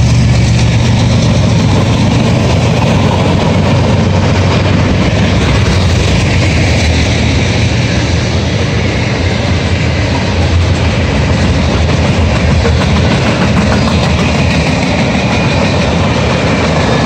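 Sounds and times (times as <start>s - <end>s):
diesel locomotive drone: 0.0s - 17.0s
freight train rumbling on rails: 0.0s - 17.0s.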